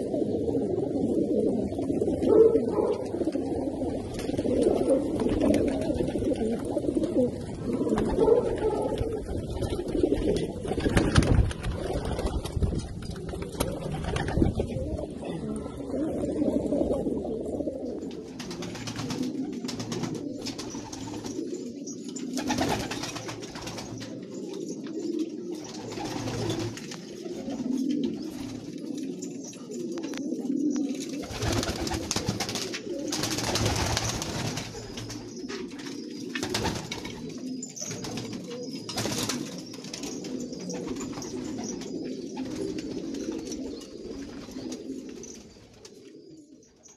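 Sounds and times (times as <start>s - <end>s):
pigeons cooing: 0.0s - 46.9s.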